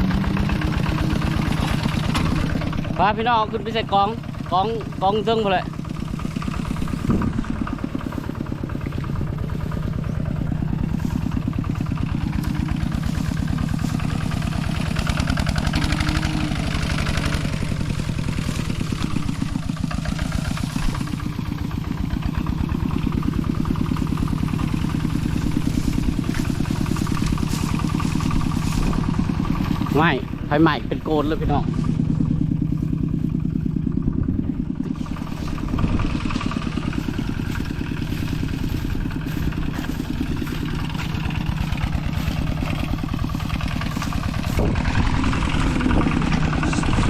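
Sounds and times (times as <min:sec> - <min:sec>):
small vehicle engine running: 0:00.0 - 0:47.0.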